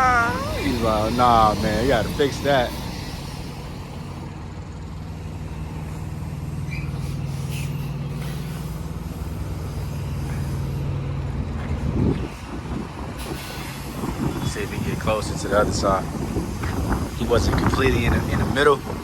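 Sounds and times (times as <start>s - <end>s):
truck diesel engine idling: 0.0s - 19.0s.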